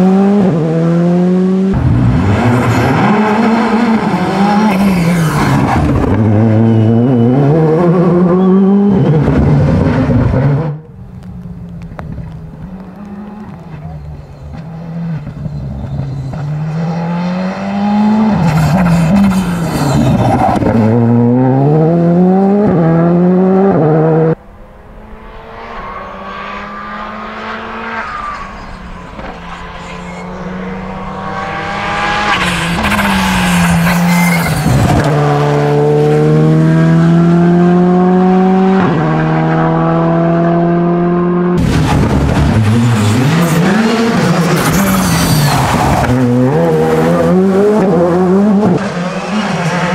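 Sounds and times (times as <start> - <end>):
rally car engine revving: 0.0 - 10.9, 11.8 - 49.9.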